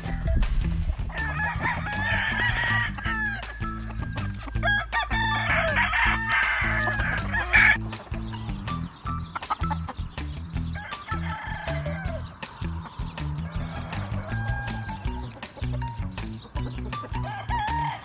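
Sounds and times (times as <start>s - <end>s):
background music with bass line: 0.0s - 18.0s
roosters crowing: 0.9s - 16.0s, 16.6s - 18.0s.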